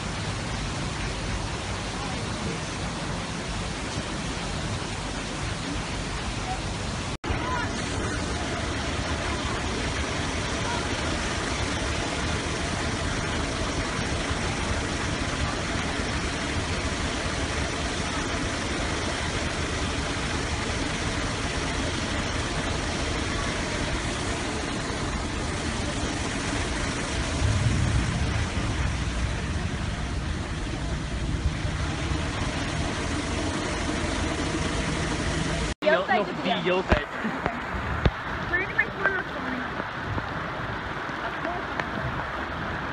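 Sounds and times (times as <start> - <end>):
loud low rumble: 0.0 - 35.8
steady rushing noise: 0.0 - 42.9
vehicle engine idling: 0.0 - 42.9.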